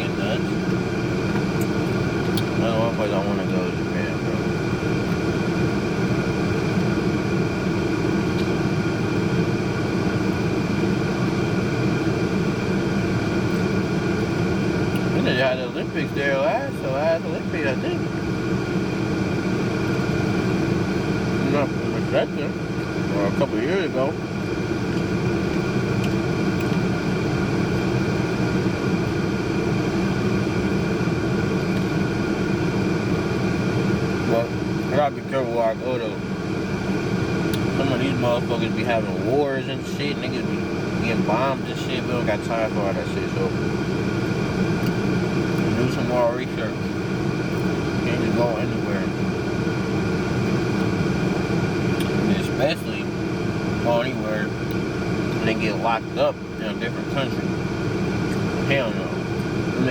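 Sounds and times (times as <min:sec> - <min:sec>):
machinery low drone and hum: 0:00.0 - 0:59.9.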